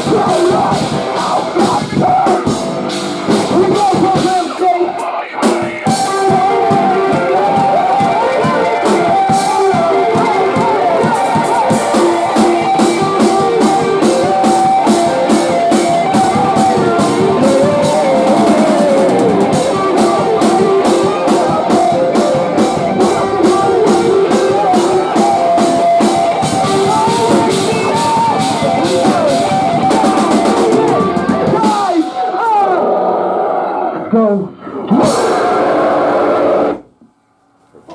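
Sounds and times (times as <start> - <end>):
drum kit beating: 0.0 - 32.9, 35.0 - 37.0
electric guitars: 0.0 - 36.9.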